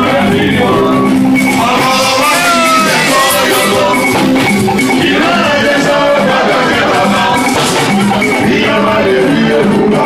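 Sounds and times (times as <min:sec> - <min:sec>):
live band music: 0:00.0 - 0:10.0
man singing into a microphone: 0:00.0 - 0:10.0.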